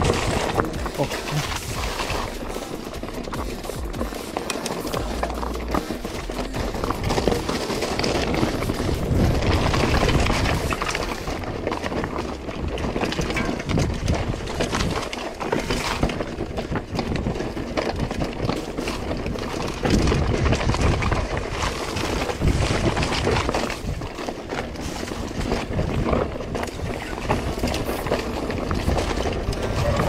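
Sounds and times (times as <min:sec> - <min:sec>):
bike rattling: 0:00.0 - 0:30.0
bike tyres crunching over stones: 0:00.0 - 0:30.0.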